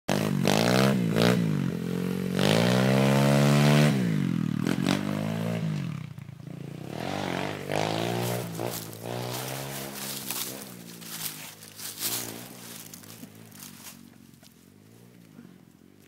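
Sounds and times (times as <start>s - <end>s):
dirt bike engine revving: 0.1s - 15.6s.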